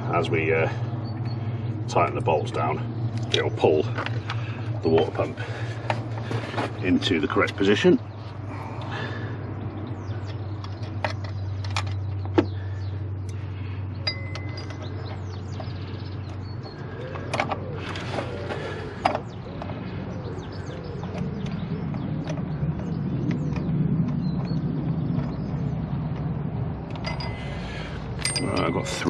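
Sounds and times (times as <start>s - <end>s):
birds chirping: 0.0s - 29.0s
passing vehicle: 0.0s - 29.0s
steady low hum: 0.0s - 29.0s.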